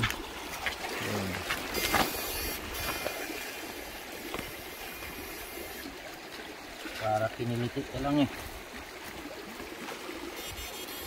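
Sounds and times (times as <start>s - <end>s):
running river water: 0.0s - 11.0s.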